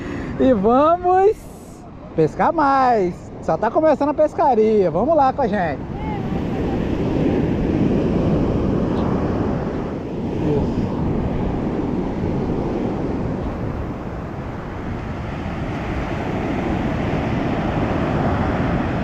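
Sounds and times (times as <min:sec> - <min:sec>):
surf washing on beach: 0:00.0 - 0:19.0
wind buffeting microphone: 0:00.0 - 0:19.0.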